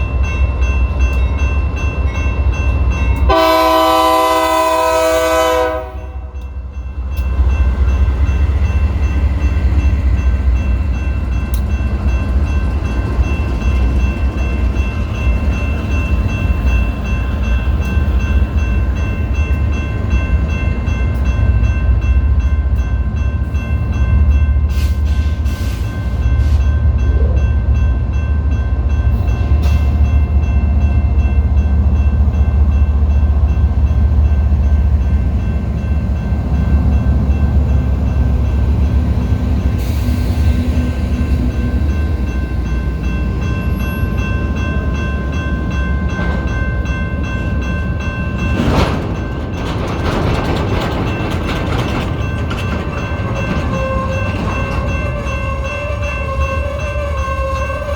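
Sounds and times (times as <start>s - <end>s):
freight train rumbling: 0.0s - 57.9s
train clanks: 0.0s - 57.9s.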